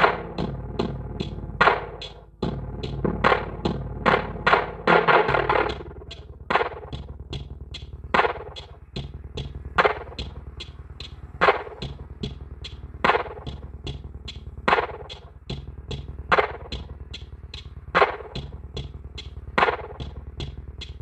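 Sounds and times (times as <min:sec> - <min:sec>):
electronic bass music: 0:00.0 - 0:21.0.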